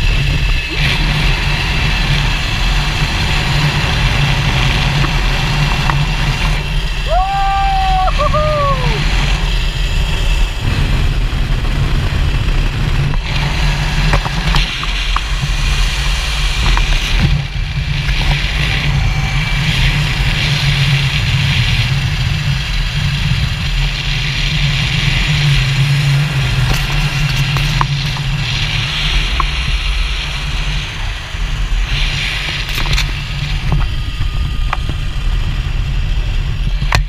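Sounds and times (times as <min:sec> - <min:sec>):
pulley wheels whirring on cable: 0:00.0 - 0:37.0.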